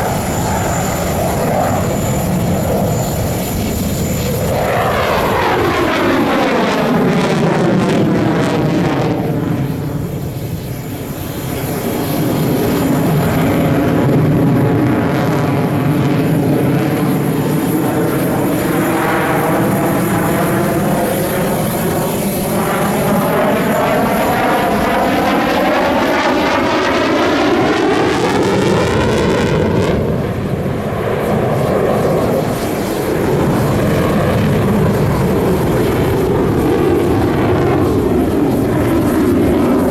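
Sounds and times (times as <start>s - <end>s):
jet fighter engines roaring: 0.0s - 39.9s.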